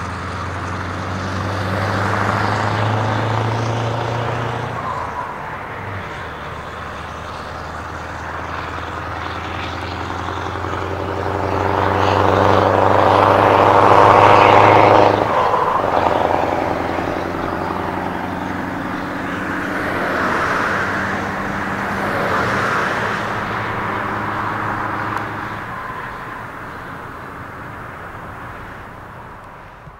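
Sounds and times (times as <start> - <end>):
truck engine pulling away: 0.0 - 29.6.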